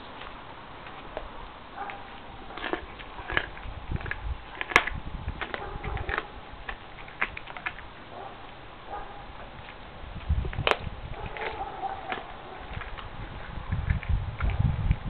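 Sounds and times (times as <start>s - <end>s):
dog chewing bones: 0.0s - 15.0s.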